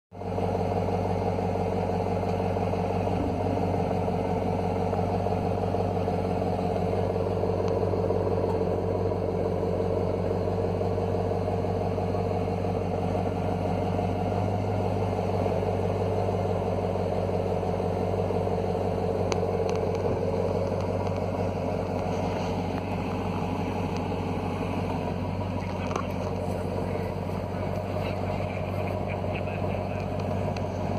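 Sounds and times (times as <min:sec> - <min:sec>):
engine idling with deep burble: 0:00.1 - 0:30.9.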